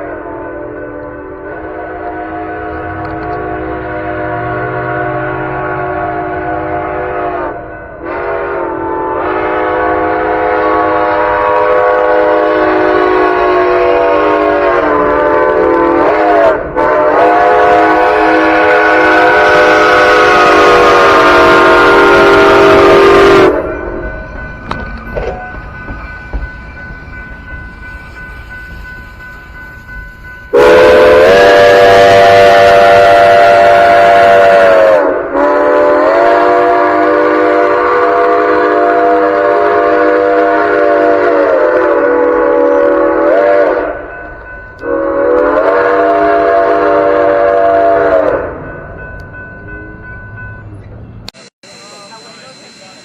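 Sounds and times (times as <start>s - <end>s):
steam locomotive chime whistle: 0.0s - 53.0s
train rumble: 0.0s - 53.0s.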